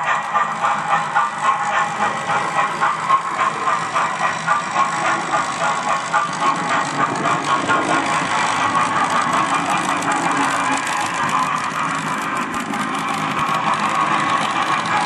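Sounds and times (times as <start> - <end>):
model train clattering on track: 0.0 - 15.0.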